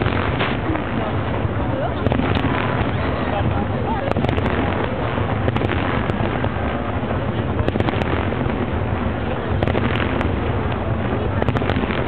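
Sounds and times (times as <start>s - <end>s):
fireworks rumbling and banging: 0.0s - 12.0s.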